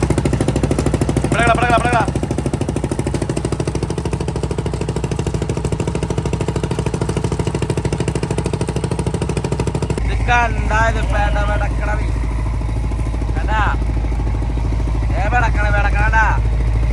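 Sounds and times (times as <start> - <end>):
boat engine running: 0.0 - 16.9.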